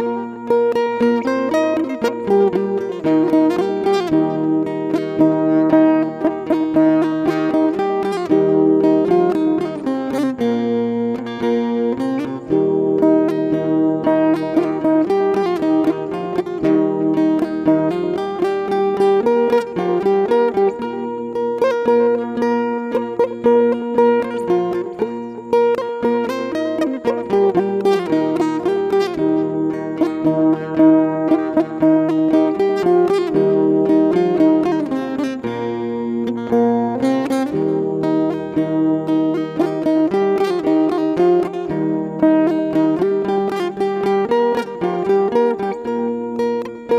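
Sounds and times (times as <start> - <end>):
acoustic guitar plucking chords: 0.0 - 46.9.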